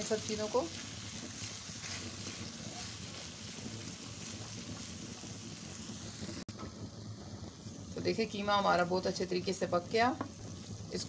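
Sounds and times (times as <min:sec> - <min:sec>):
minced meat sizzling in oil: 0:00.0 - 0:11.0.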